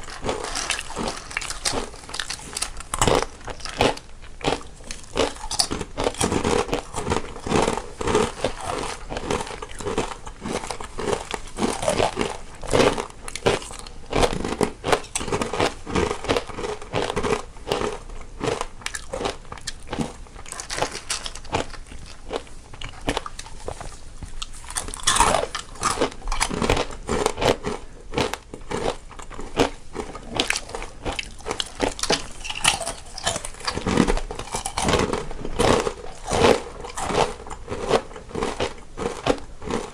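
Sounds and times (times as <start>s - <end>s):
people chewing crunchy snacks: 0.0s - 39.9s.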